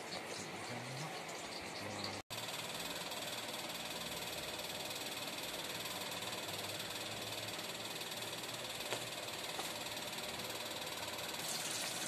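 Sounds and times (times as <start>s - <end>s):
stovetop hiss: 0.0s - 12.0s.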